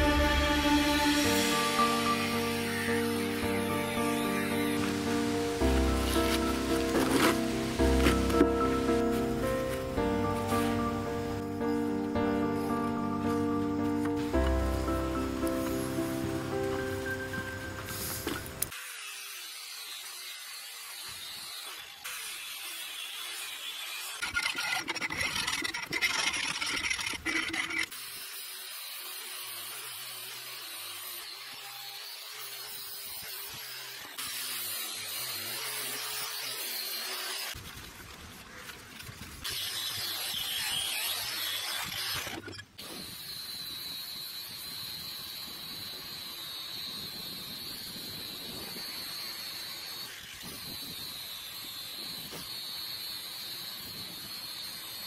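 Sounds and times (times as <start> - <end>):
angle grinder on steel: 0.0 - 9.4, 17.8 - 37.6, 39.4 - 55.0.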